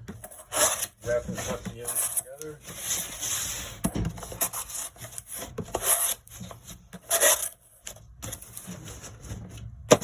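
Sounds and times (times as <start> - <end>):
cardboard panels scraping: 0.1 - 10.0.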